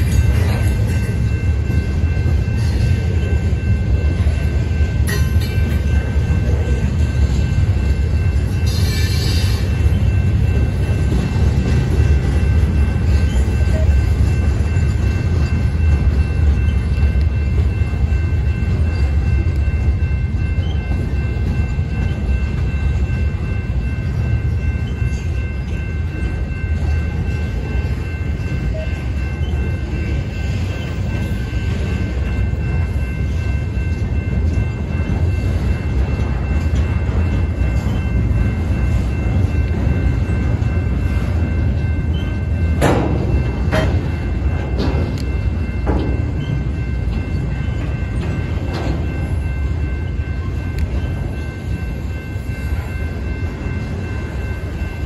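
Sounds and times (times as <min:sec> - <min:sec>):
high-pitched ringing: 0:00.0 - 0:55.0
train wheels rumbling over rails: 0:00.0 - 0:55.0.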